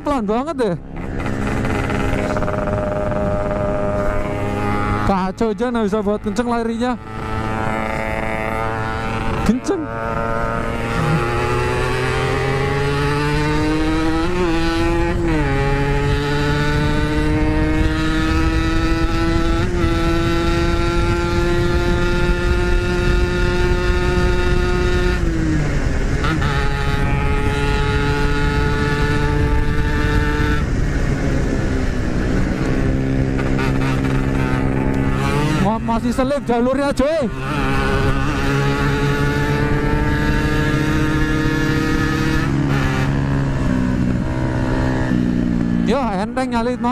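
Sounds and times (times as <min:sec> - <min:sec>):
two-stroke motorcycle engine revving: 0:00.0 - 0:46.9.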